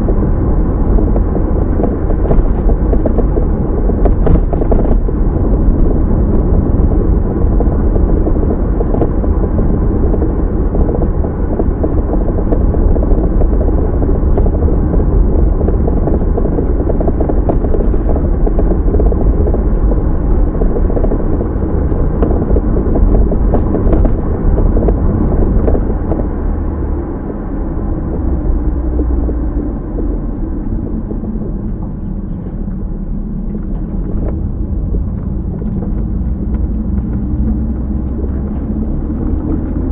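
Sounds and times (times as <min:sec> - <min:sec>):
road and engine rumble inside car: 0:00.0 - 0:39.9.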